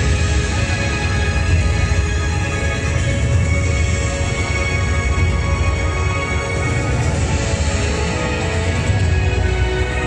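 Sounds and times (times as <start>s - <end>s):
music with heavy bass: 0.0s - 10.0s.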